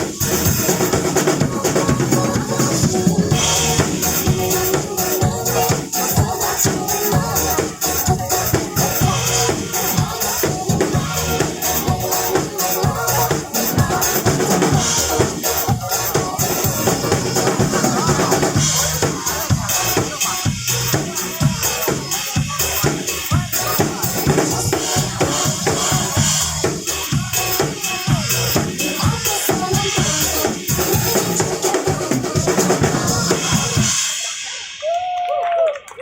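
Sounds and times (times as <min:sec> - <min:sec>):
drum kit played hard: 0:00.0 - 0:34.8
recorded pop music: 0:00.0 - 0:35.2.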